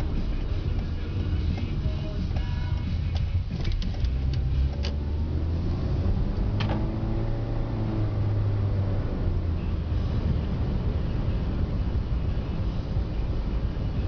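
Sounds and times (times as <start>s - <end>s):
car engine and tyre drone: 0.0s - 14.0s.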